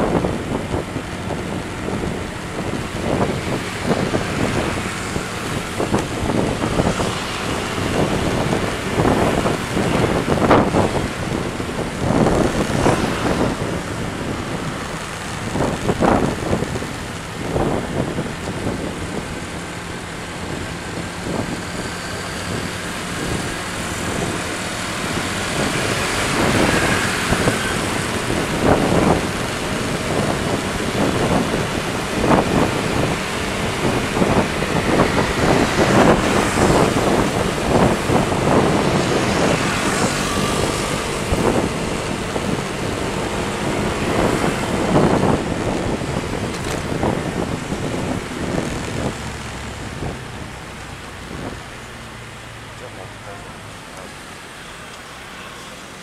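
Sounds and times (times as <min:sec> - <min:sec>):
wind buffeting microphone: 0:00.0 - 0:55.1.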